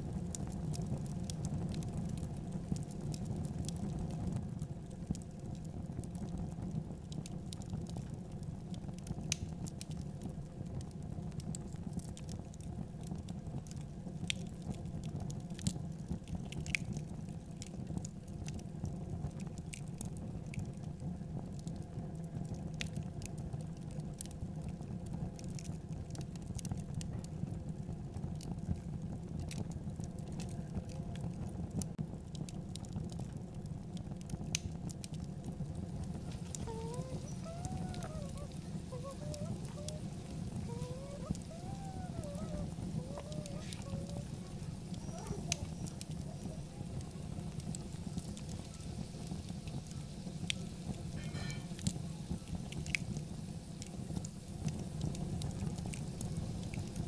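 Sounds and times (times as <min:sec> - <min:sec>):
fat crackling and popping: 0:00.0 - 0:57.0.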